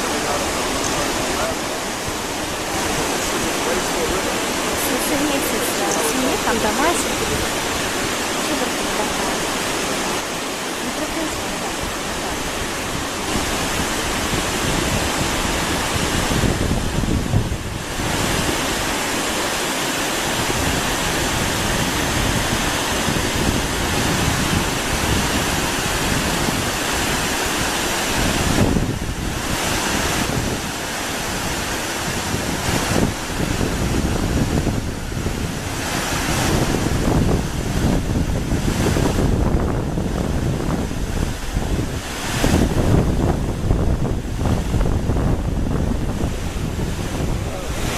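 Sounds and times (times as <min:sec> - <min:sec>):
waterfall rushing: 0:00.0 - 0:47.9
wind buffeting microphone: 0:00.0 - 0:47.9.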